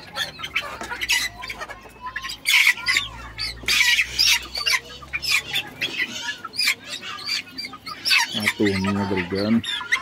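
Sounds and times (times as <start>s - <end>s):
chickens squawking and cheeping: 0.0s - 10.0s.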